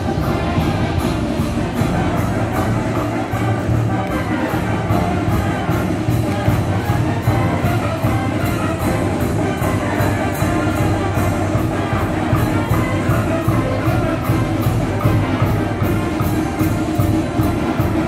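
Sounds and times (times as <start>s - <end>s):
brass band playing: 0.0s - 18.0s.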